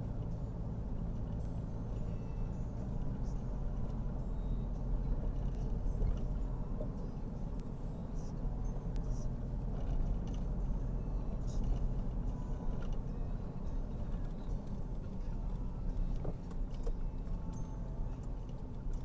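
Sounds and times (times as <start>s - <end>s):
car engine hum: 0.0s - 19.0s
road rumble: 0.0s - 19.0s.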